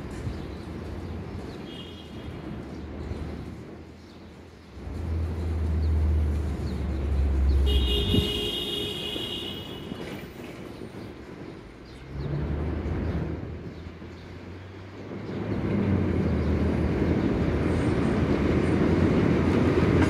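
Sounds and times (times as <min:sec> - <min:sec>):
low rumble of street traffic: 0:00.0 - 0:20.0.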